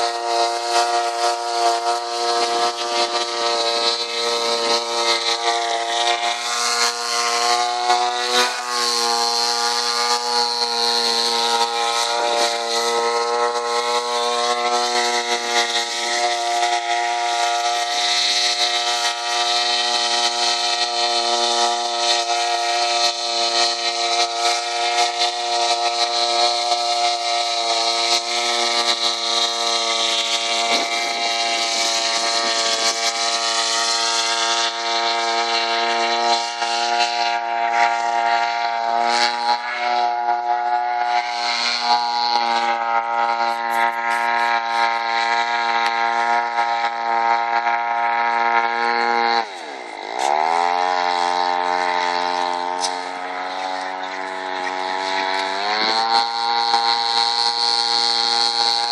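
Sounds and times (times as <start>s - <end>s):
two-stroke engine driving propeller: 0.0s - 58.9s.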